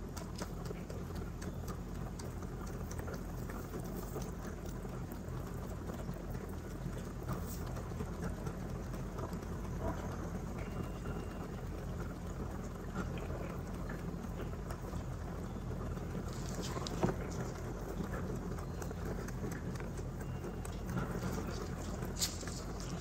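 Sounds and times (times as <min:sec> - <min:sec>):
rabbits chewing dry hay: 0:00.0 - 0:23.0
steady low hum: 0:00.0 - 0:23.0.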